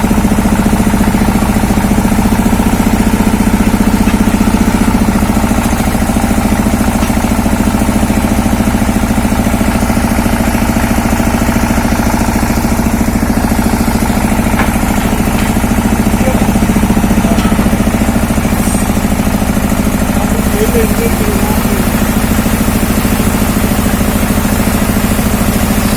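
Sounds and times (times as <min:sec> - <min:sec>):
drilling rig engine running: 0:00.0 - 0:25.9.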